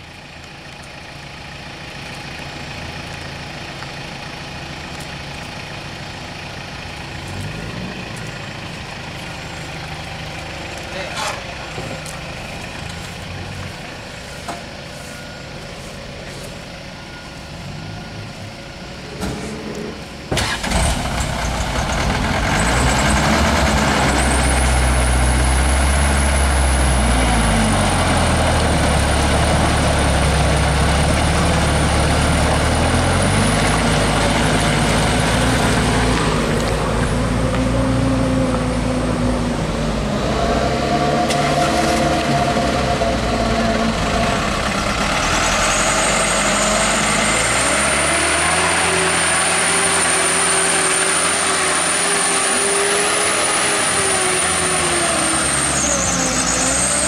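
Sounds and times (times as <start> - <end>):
diesel engines under heavy load: 0.0 - 57.0.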